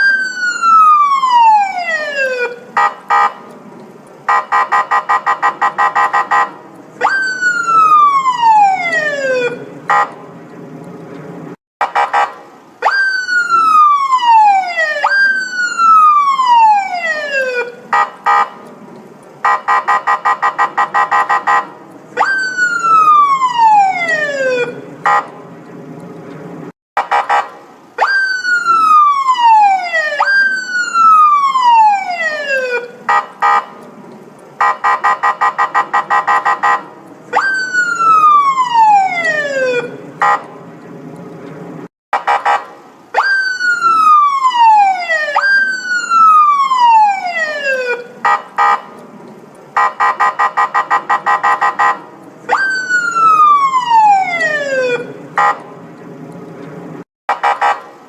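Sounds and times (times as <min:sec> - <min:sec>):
police siren wailing: 0:00.0 - 0:03.5, 0:04.3 - 0:10.2, 0:11.8 - 0:18.7, 0:19.4 - 0:25.3, 0:27.0 - 0:33.8, 0:34.6 - 0:40.6, 0:42.2 - 0:49.0, 0:49.8 - 0:55.7.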